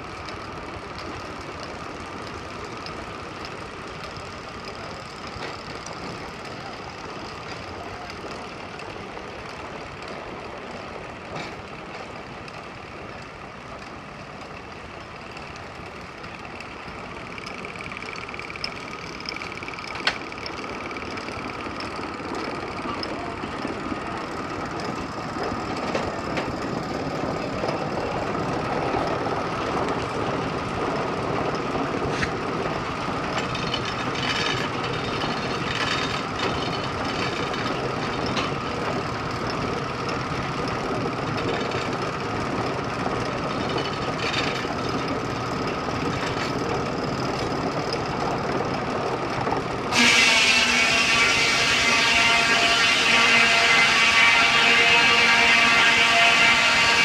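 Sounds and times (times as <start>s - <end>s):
steam engine and circular saw running: 0.0s - 57.0s.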